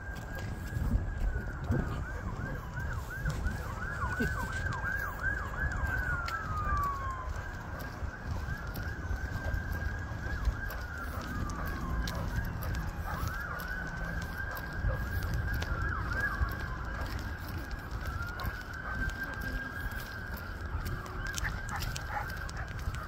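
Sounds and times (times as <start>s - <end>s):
emergency siren yelping and wailing: 0.0s - 23.0s.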